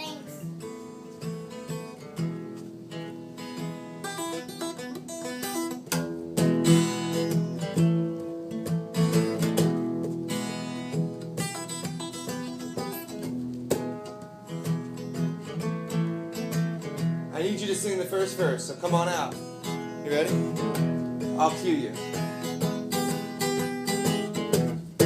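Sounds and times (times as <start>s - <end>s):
acoustic guitar strummed and picked: 0.0s - 25.0s.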